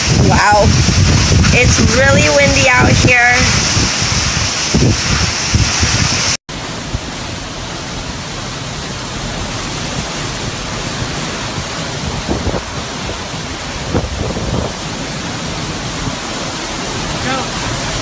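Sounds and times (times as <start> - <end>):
heavy rain: 0.0 - 18.0
hurricane wind: 0.0 - 18.0.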